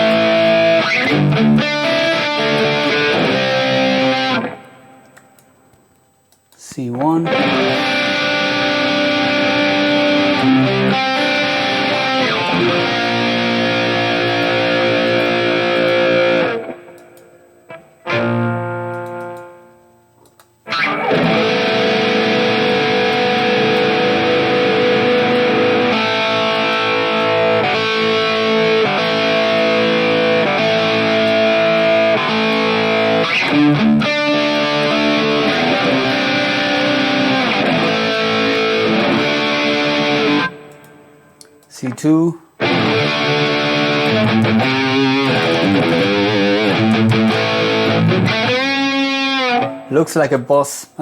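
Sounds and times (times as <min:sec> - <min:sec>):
distorted electric guitar with chorus: 0:00.0 - 0:05.8, 0:07.0 - 0:50.0.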